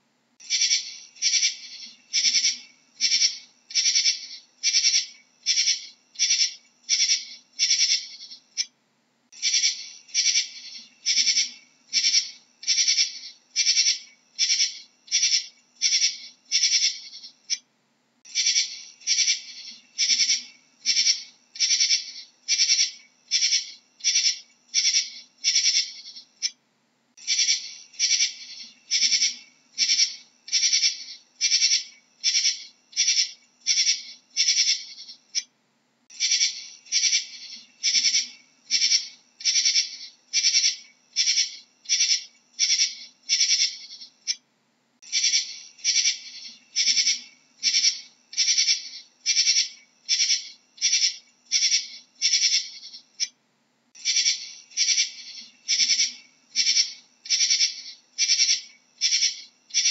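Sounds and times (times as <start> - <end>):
katydid buzzing chirps: 0.4 - 8.7, 9.4 - 17.6, 18.3 - 26.5, 27.2 - 35.4, 36.1 - 44.4, 45.0 - 53.3, 54.0 - 59.9.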